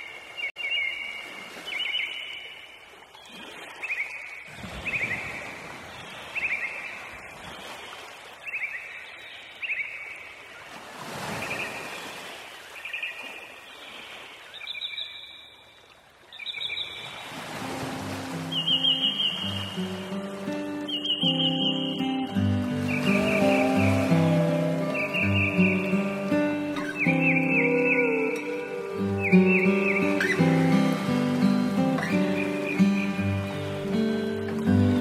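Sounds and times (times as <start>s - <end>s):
songbird singing: 0.0s - 7.7s, 8.3s - 10.7s, 11.4s - 17.2s, 18.1s - 35.0s.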